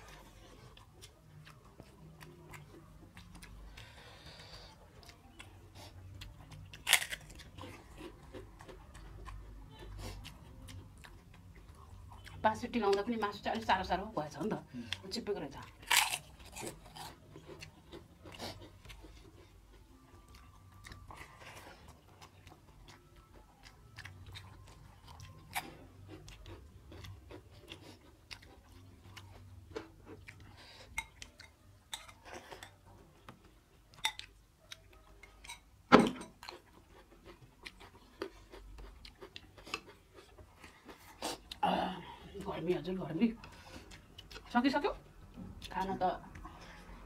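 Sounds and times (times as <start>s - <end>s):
chewing mouth noises: 0.0s - 13.6s, 15.6s - 35.6s, 36.4s - 41.6s.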